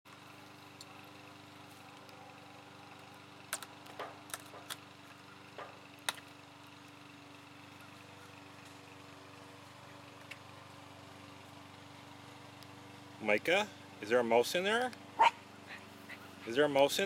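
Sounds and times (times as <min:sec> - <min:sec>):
faint mechanical hum: 0:00.1 - 0:17.0.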